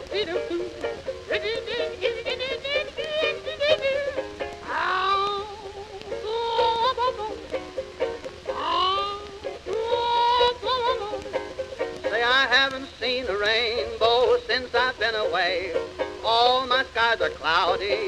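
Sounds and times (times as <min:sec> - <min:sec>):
old popular song with ukulele: 0:00.0 - 0:18.0.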